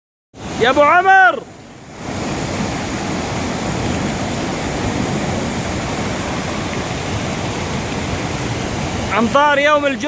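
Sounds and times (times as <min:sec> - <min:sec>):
rushing water: 0:00.4 - 0:10.0.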